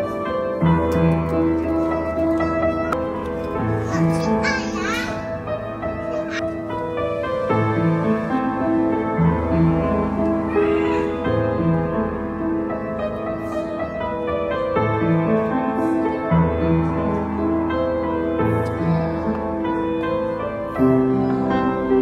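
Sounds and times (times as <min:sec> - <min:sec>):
slow instrumental music: 0:00.0 - 0:22.0.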